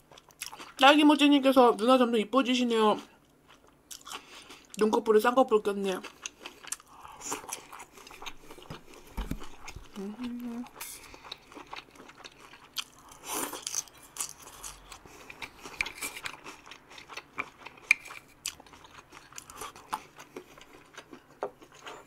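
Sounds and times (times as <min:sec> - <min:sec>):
person chewing and crunching food: 0:00.0 - 0:00.8, 0:03.0 - 0:04.9, 0:05.8 - 0:22.0.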